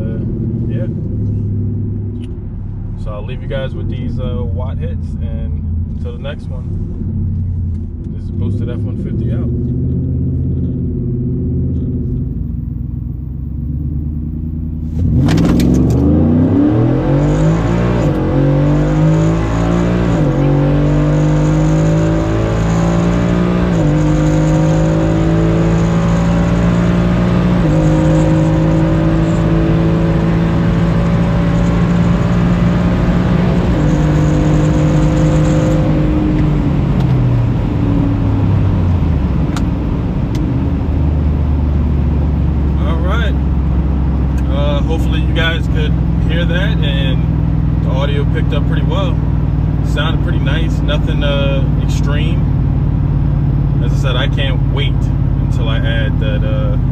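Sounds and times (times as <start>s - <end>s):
truck engine idling and revving: 0.0s - 56.9s.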